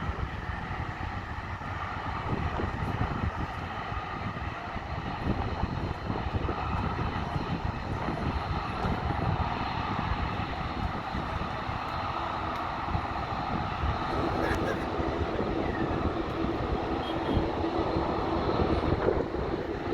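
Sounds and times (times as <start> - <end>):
turboprop engines droning: 0.0 - 19.9.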